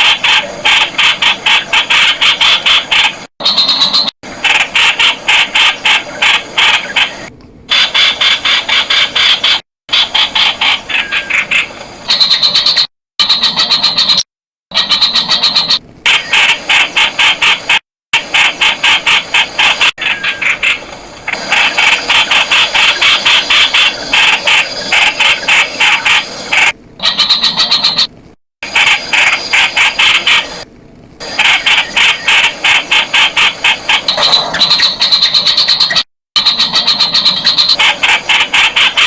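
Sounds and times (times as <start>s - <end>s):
bird calling sharp repeated notes: 0.0s - 4.2s, 4.8s - 17.8s, 20.0s - 28.1s, 31.3s - 39.0s.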